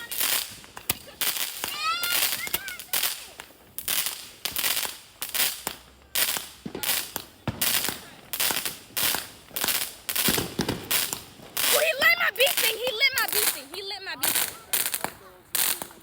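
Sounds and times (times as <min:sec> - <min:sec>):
fireworks banging and hissing: 0:00.0 - 0:16.0.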